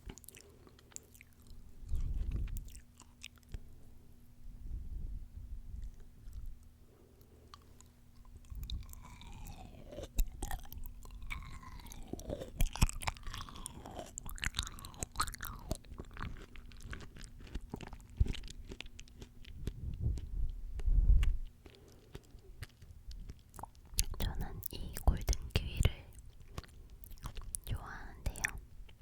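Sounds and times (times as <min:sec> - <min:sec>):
chewing crunchy fruit: 0:00.0 - 0:04.2, 0:05.7 - 0:29.0.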